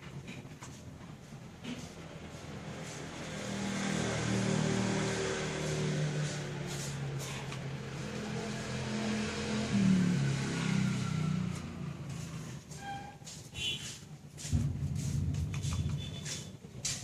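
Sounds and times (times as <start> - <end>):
vehicle engine running: 1.2 - 12.8, 14.4 - 17.0.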